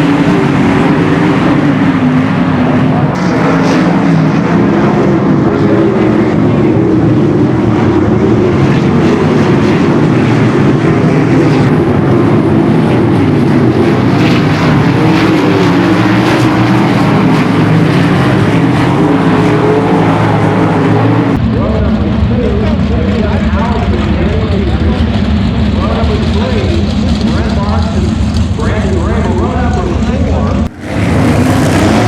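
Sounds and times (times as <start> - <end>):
race car engines: 0.0 - 32.0.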